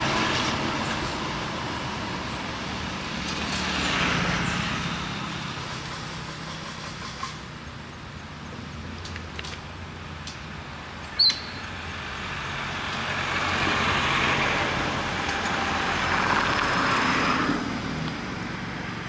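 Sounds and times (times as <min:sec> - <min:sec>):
motor vehicle passing: 0:00.0 - 0:08.0, 0:10.0 - 0:19.0.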